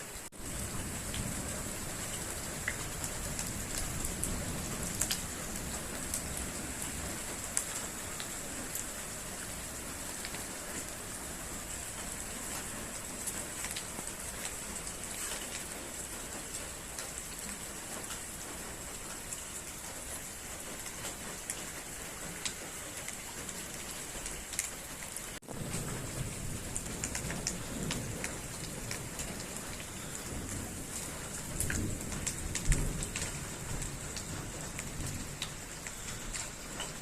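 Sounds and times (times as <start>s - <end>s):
steady rain falling: 0.0s - 37.0s
raindrop ticks: 0.9s - 9.5s, 10.1s - 11.0s, 11.8s - 37.0s.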